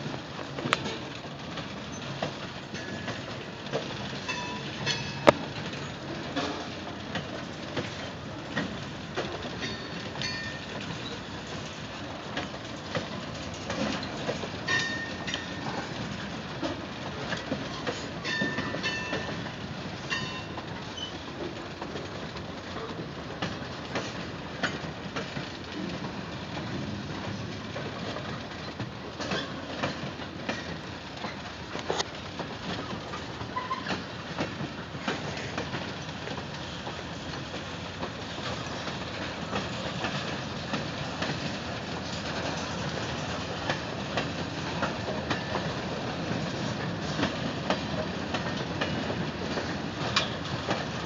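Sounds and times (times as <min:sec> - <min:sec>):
freight train wheels clicking over rail joints: 0:00.0 - 0:51.0.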